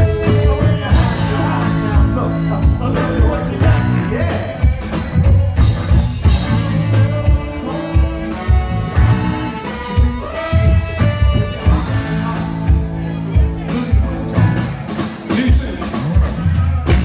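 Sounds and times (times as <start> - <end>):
funk band playing: 0.0 - 17.0
voices singing: 0.0 - 17.0.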